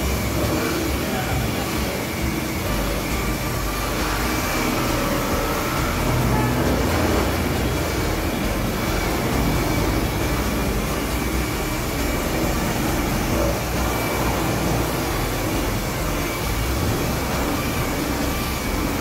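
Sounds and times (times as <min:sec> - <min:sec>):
electric rotary polisher running: 0:00.0 - 0:19.0.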